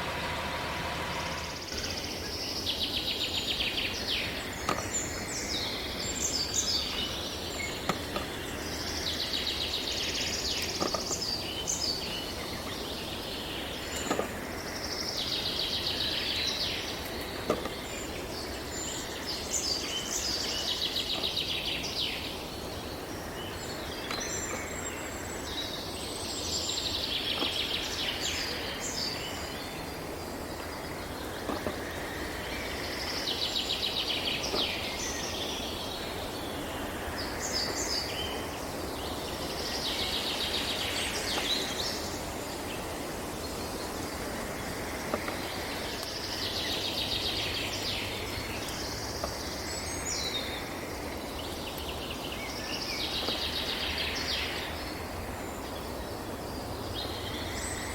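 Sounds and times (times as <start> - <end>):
steady background hiss: 0.0 - 57.9.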